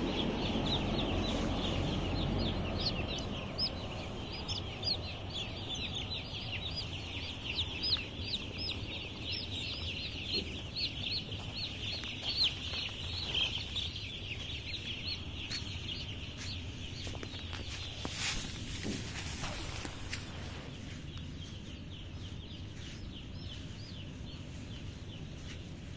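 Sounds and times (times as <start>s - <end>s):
chicks peeping: 0.0s - 25.9s
steady low hum: 0.0s - 25.9s.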